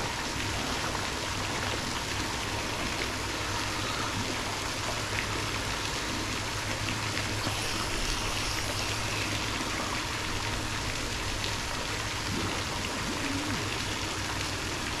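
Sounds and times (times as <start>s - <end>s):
low hum: 0.0s - 15.0s
water rushing and trickling: 0.0s - 15.0s.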